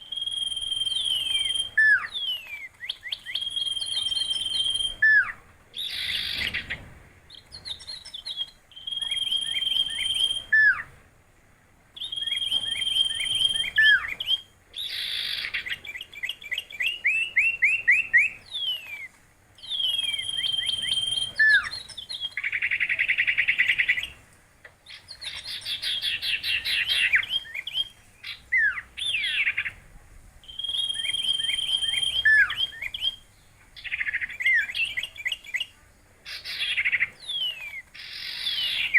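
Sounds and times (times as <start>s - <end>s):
songbird singing with trills: 0.0s - 11.0s, 12.0s - 24.2s, 24.8s - 29.8s, 30.4s - 38.9s.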